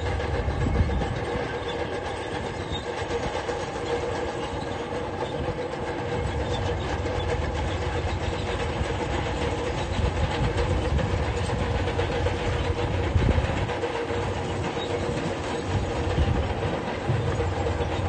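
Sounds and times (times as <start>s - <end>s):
steel crawler tracks clattering: 0.0s - 18.0s.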